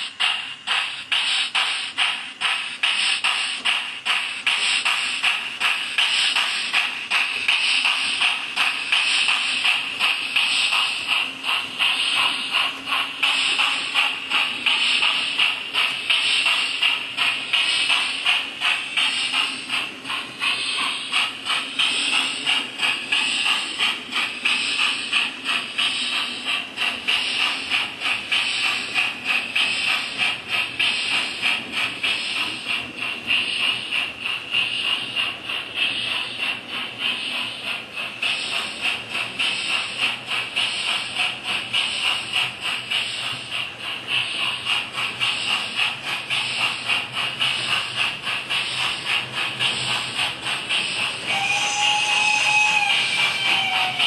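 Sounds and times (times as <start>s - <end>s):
steam locomotive chuffing from speaker: 0.0s - 54.0s.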